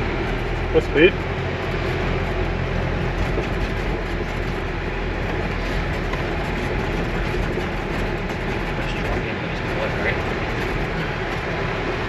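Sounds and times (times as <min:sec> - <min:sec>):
car interior driving rumble: 0:00.0 - 0:12.0.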